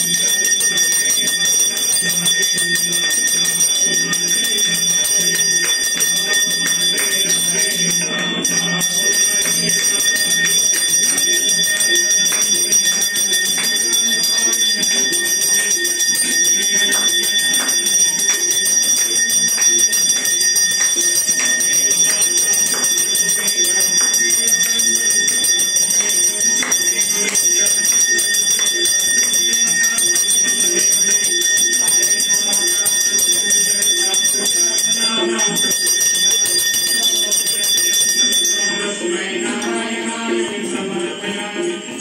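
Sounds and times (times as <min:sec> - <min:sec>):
bells ringing rapidly: 0:00.0 - 0:42.0.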